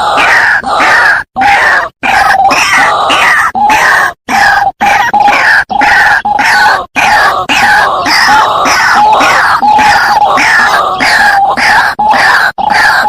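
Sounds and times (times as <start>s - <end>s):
waterhen harsh croaking calls: 0.0s - 13.0s.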